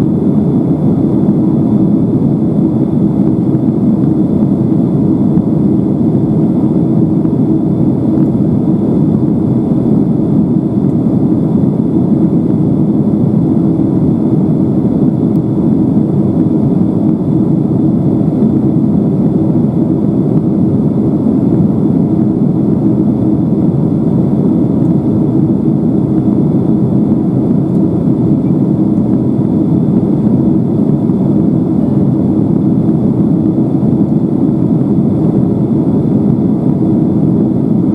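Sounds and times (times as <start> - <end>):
faint constant hum: 0.0 - 37.9
jet engine and airflow noise: 0.0 - 37.9.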